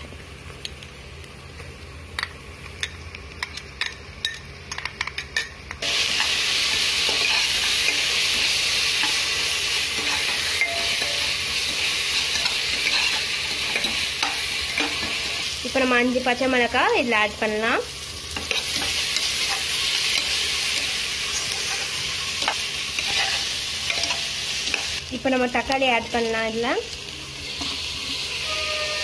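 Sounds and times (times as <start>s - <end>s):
onions sizzling in oil: 0.0s - 29.0s.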